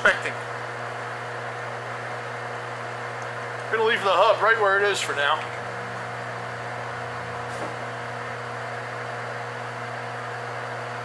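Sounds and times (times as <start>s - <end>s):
steady mechanical hum with hiss: 0.0s - 11.0s.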